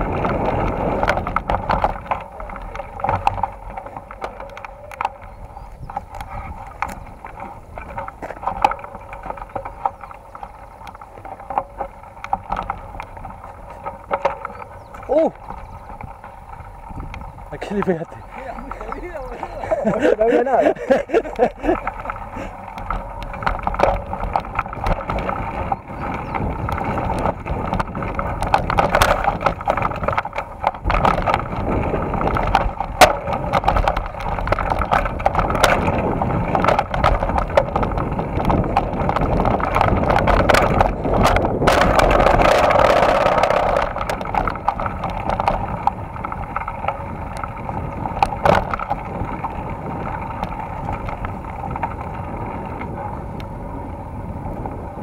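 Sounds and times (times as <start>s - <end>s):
bike clicking and rattling: 0.0s - 55.0s
tyre and wind noise: 0.0s - 55.0s.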